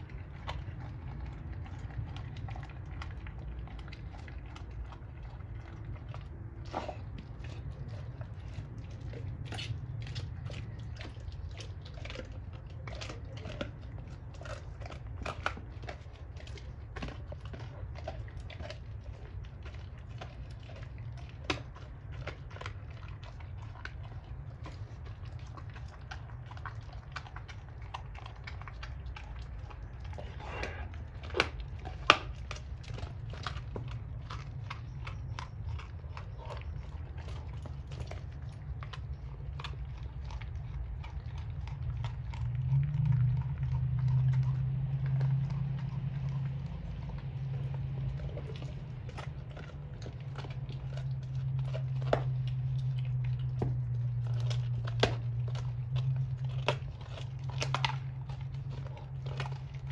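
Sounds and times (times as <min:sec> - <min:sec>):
dog gnawing bone: 0:00.0 - 0:59.9
low background hum: 0:00.0 - 0:59.9.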